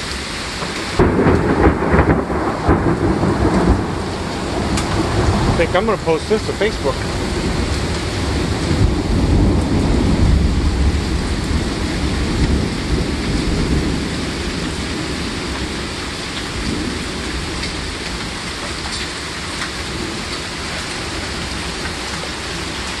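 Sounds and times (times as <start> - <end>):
heavy rain and hail: 0.0 - 23.0.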